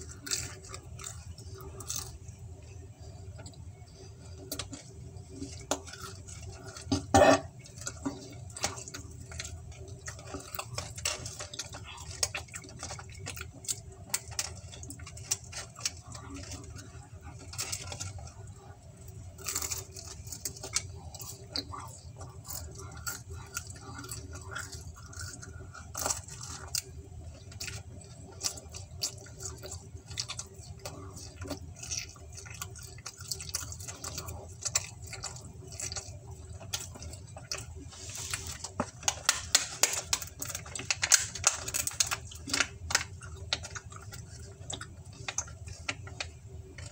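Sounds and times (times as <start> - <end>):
chewing pizza: 0.0 - 46.9
faint steady hum: 0.0 - 46.9.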